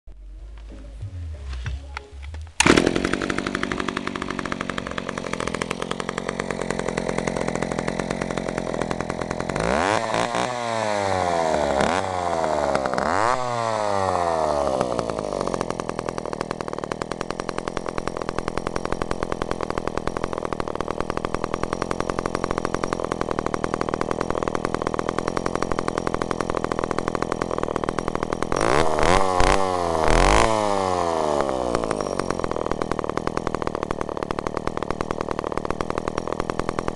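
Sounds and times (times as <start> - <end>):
chainsaw idling and revving: 2.2 - 36.9.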